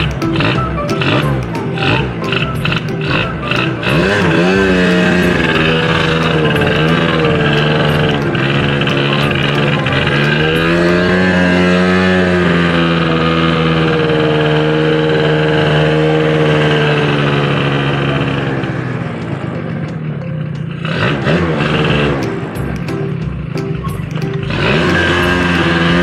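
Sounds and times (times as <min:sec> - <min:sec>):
scooter two-stroke engine revving: 0:00.0 - 0:26.0.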